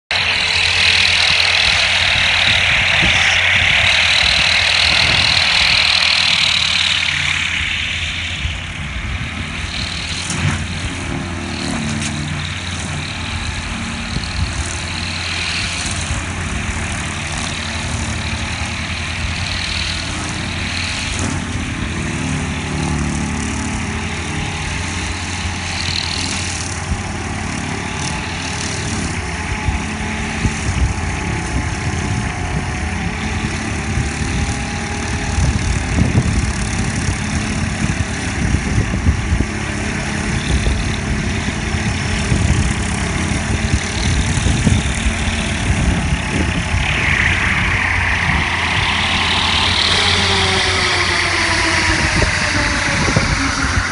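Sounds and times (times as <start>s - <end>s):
diesel engine running: 0.0s - 53.9s
rotary mower cutting grass: 0.0s - 53.9s.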